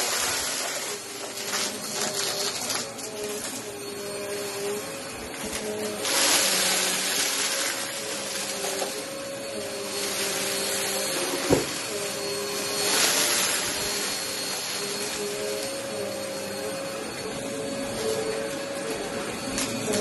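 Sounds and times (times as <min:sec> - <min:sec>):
upright vacuum cleaner running: 0:00.0 - 0:20.0.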